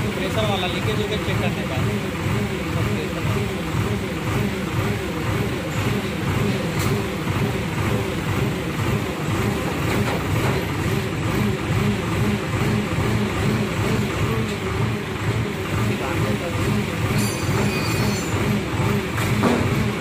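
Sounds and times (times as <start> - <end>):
crane diesel engine running: 0.0 - 20.0.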